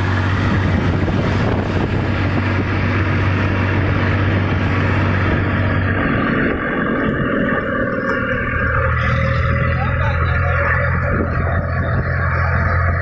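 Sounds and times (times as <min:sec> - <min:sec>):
tractor diesel engine drone: 0:00.0 - 0:13.0.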